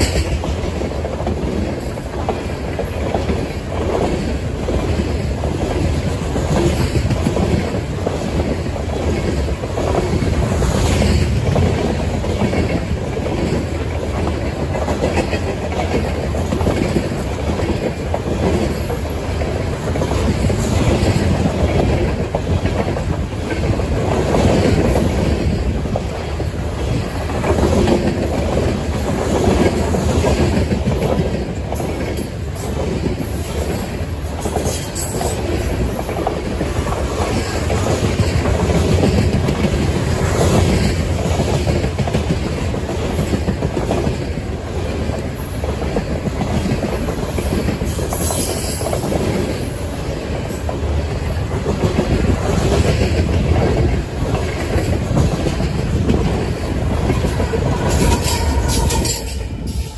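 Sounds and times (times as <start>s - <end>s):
train cars rumbling and rattling: 0.0s - 59.9s
wheels clacking over rail joints: 0.0s - 59.9s.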